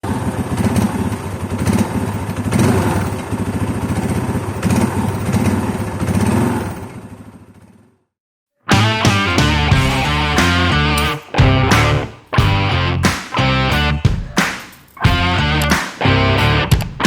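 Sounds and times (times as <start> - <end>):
motorcycle engine idling and revving: 0.0 - 14.4, 15.0 - 17.0.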